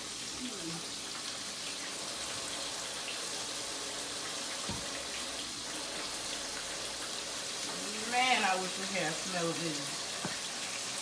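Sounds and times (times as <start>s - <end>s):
kitchen tap running: 0.0s - 11.0s.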